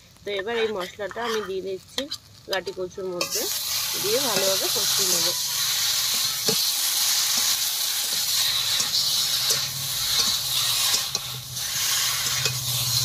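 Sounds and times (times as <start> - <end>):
food sizzling in hot oil: 0.0 - 13.0
metal spatula scraping pan: 0.4 - 13.0.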